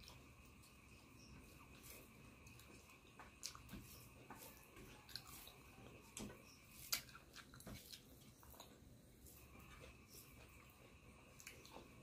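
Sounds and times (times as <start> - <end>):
close-up chewing: 0.0 - 12.0.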